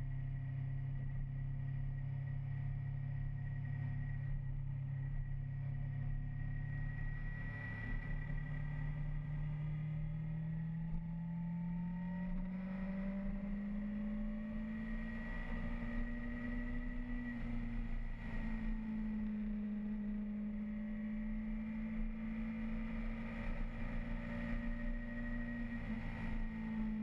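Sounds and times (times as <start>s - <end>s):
motorcycle engine humming: 0.1s - 27.0s.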